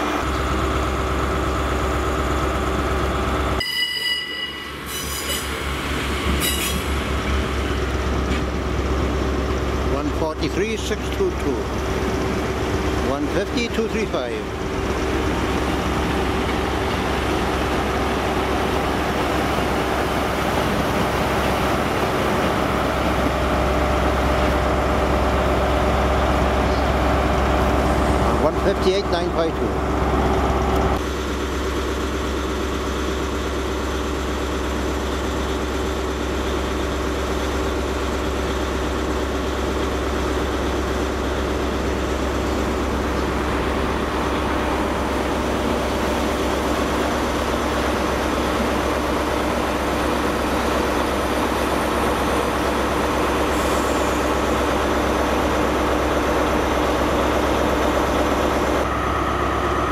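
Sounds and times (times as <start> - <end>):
train diesel engines humming: 0.0 - 59.9.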